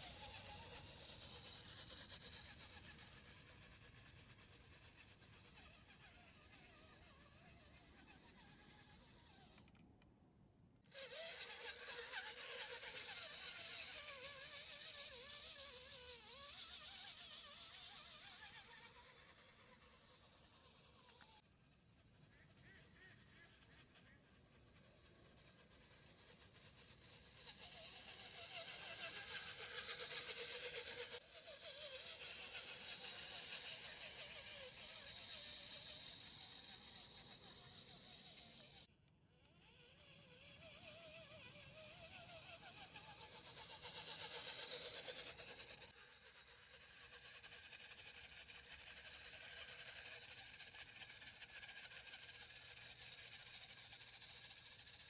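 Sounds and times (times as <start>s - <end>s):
toy car motor whining: 0.0s - 9.8s, 10.8s - 55.0s.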